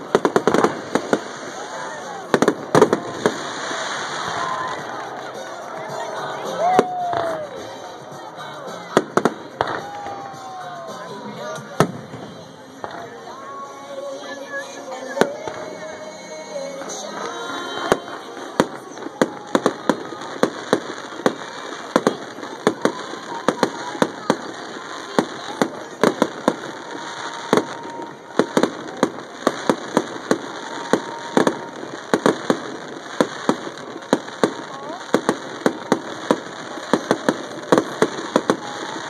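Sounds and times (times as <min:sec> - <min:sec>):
fireworks popping and crackling: 0:00.0 - 0:39.0
music playing: 0:00.0 - 0:39.0.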